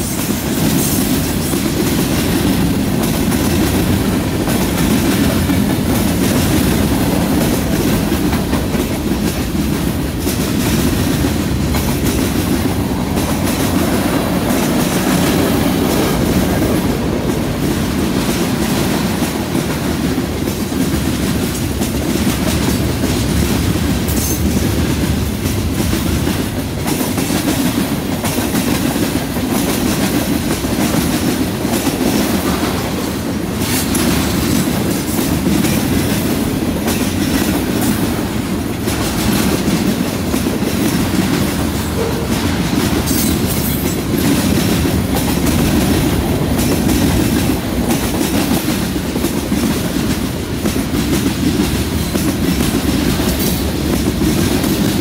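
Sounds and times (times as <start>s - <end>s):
clickety-clack over rail joints: 0.0s - 55.0s
freight train wheels rumbling: 0.0s - 55.0s.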